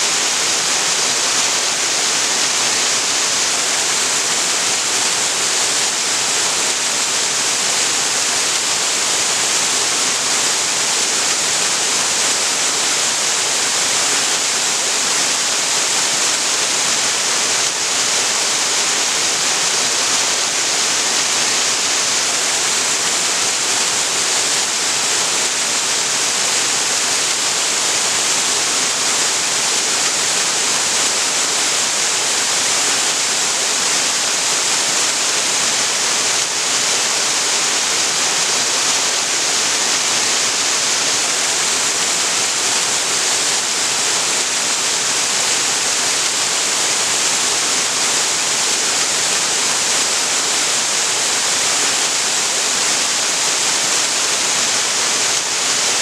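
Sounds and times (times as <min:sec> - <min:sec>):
waterfall pouring: 0:00.1 - 0:56.0.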